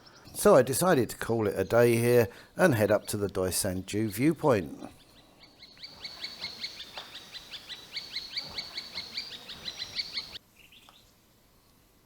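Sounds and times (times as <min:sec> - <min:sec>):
small bird calling: 0:01.4 - 0:11.1.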